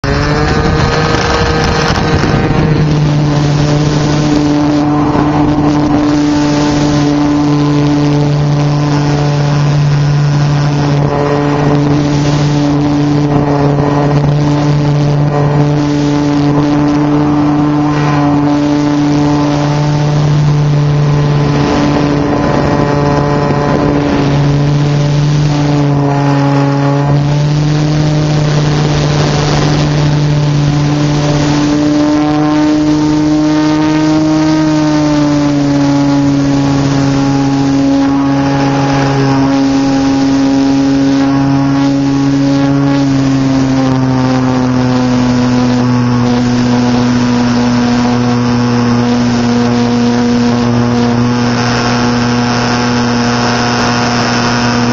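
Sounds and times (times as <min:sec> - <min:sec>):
model airplane motor and propeller: 0:00.0 - 0:54.9.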